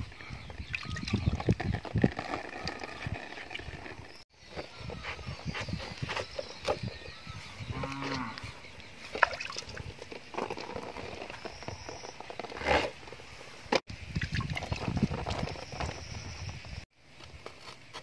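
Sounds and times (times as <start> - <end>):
knocks and scraping: 0.5 - 8.4, 9.0 - 13.9, 14.5 - 18.0.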